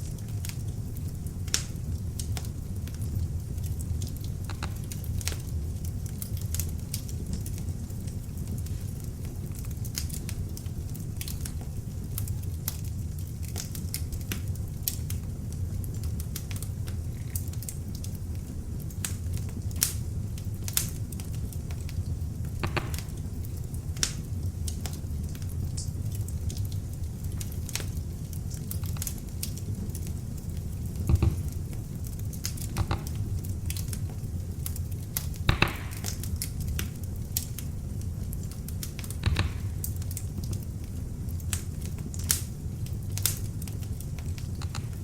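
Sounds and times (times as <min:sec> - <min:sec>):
log fire crackling and popping: 0:00.0 - 0:45.0.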